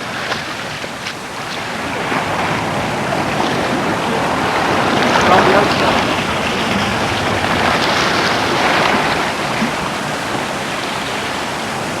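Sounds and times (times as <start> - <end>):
sea surf washing: 0.0 - 12.0.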